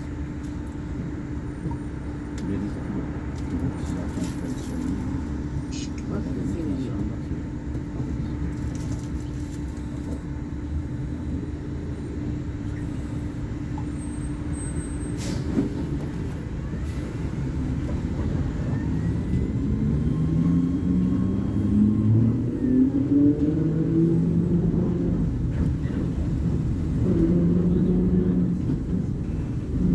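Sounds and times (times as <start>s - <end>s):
diesel bus engine accelerating: 0.0s - 29.9s.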